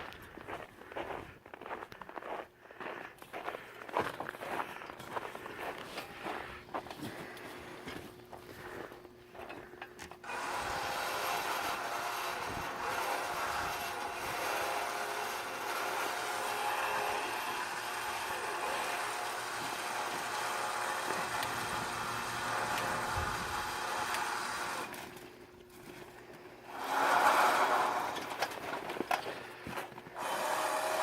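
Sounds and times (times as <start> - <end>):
log loader machinery drone: 4.6 - 31.0.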